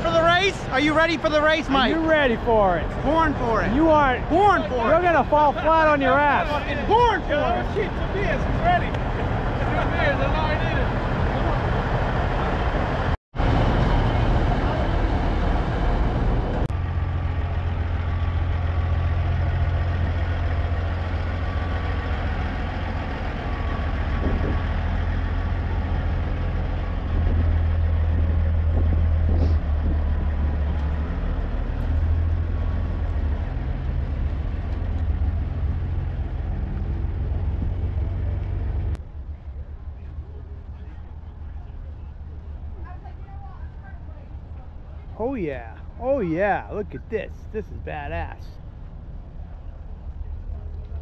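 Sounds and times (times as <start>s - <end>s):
diesel truck engines droning: 0.0s - 51.0s.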